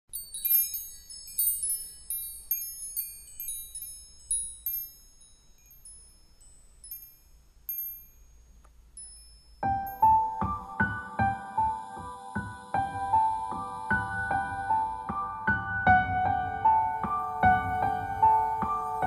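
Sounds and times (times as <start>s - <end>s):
wind chimes tinkling: 0.1s - 15.8s, 16.6s - 19.0s.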